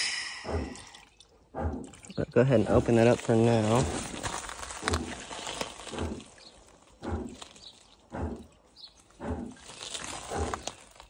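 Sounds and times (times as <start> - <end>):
water pump running: 0.0 - 10.8
water and air pulsing through pipes: 0.0 - 11.0.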